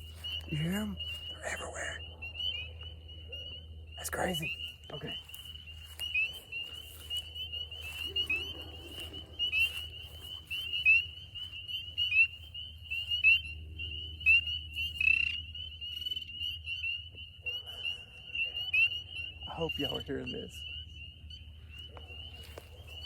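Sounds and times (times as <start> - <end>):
spring peepers chorus: 0.0 - 23.0.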